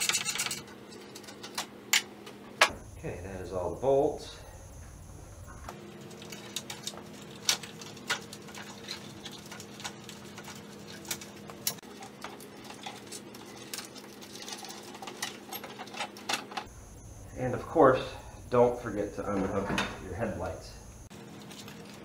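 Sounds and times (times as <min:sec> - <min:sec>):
steady low hum: 0:00.0 - 0:13.8, 0:15.9 - 0:22.0.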